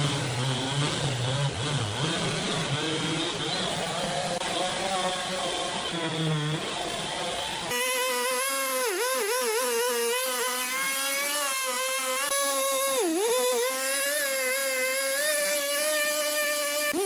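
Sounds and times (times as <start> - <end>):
sawmill saw whining: 0.0 - 17.0.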